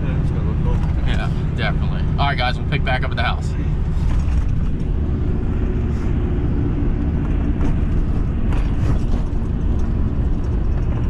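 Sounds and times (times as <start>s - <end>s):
pickup truck engine: 0.0s - 11.0s.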